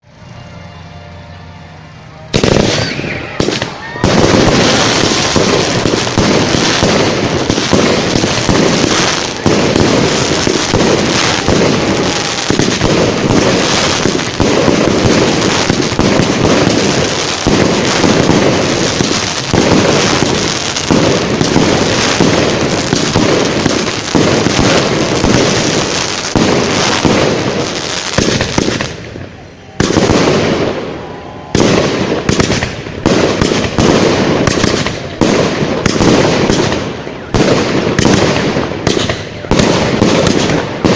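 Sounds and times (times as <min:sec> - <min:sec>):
fireworks bangs and crackling: 0:02.2 - 0:40.9.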